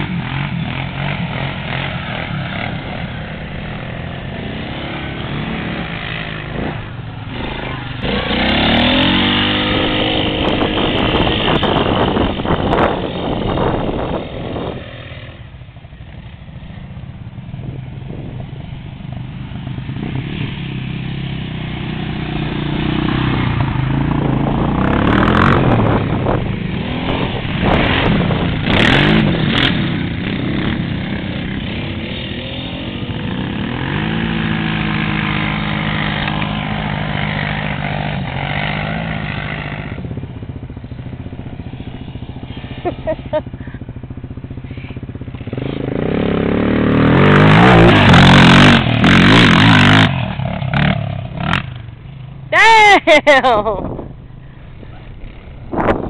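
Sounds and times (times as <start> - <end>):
quad engine revving: 0.0 - 15.6, 17.6 - 54.0.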